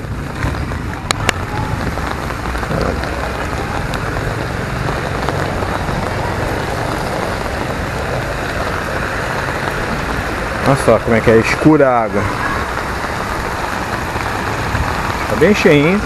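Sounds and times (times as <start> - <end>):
fast-flowing canal water rushing: 0.0 - 16.0
moderate rain falling: 0.0 - 16.0.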